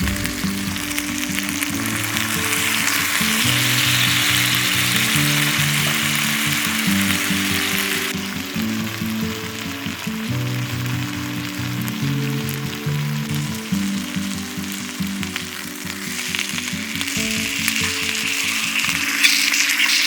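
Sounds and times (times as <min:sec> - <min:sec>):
music of low sustained notes: 0:00.0 - 0:18.5
sizzling and crackling: 0:00.0 - 0:20.0.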